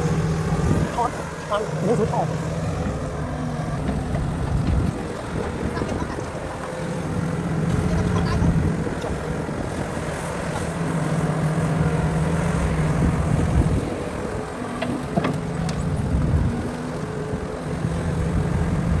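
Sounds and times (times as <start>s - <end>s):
construction machine engine hum: 0.0s - 19.0s.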